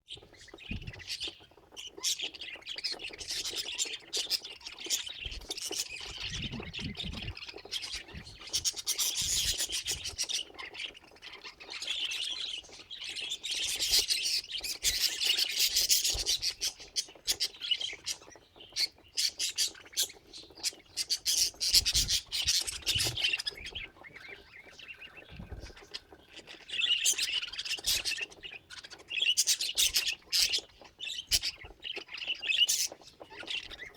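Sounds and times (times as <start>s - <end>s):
budgies chirping and squawking: 0.1s - 33.9s.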